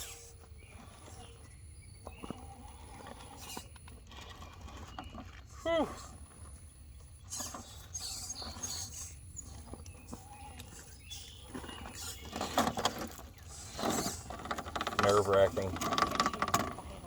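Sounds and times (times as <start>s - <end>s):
rc car tires scraping on rock: 0.0s - 17.0s.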